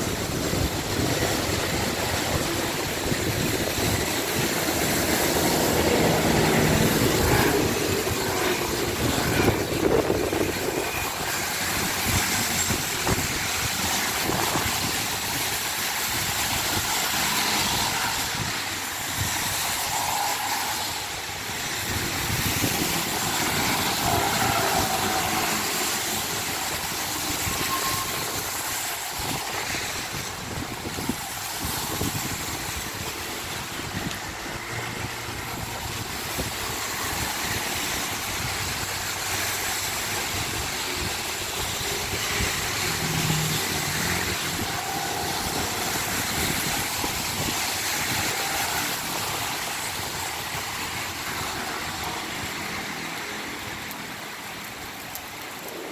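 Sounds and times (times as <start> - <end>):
cars passing on wet road: 0.0 - 55.9
heavy rain: 0.0 - 55.9.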